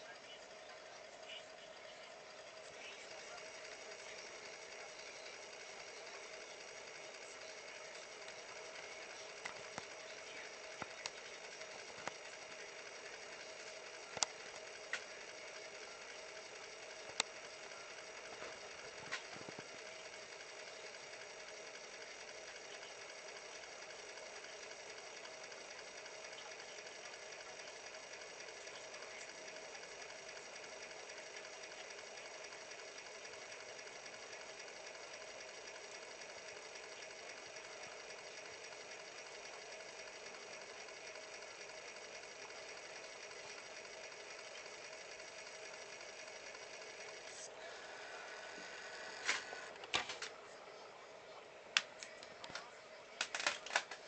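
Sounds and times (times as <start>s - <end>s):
cd player whirring: 0.0s - 54.0s.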